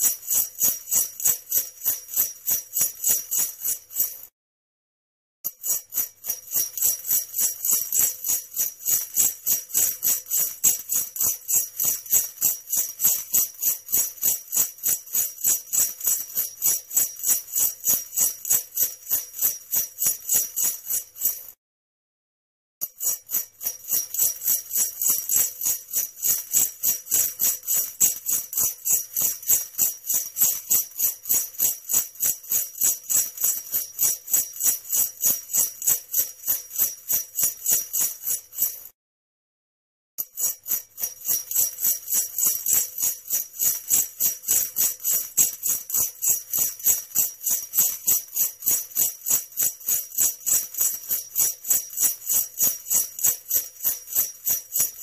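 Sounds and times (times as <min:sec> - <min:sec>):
sleigh bells jingling: 0:00.0 - 0:04.3, 0:05.5 - 0:21.5, 0:22.8 - 0:38.9, 0:40.2 - 0:55.0.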